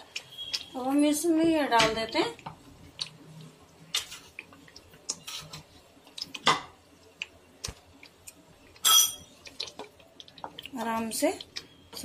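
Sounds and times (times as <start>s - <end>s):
gravy bubbling with pops: 1.7s - 12.0s.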